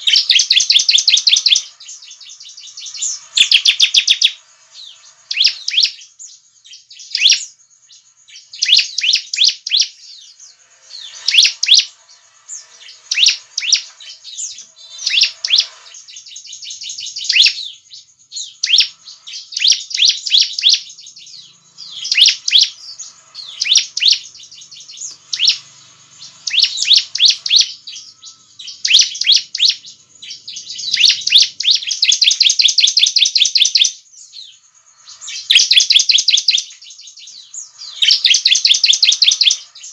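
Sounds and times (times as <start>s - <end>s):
bird fast trill: 0.0s - 39.9s
bird singing high chirps: 0.0s - 39.9s.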